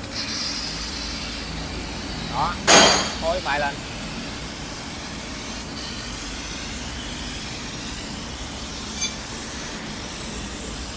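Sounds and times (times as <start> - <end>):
extraction fan humming: 0.0 - 10.9.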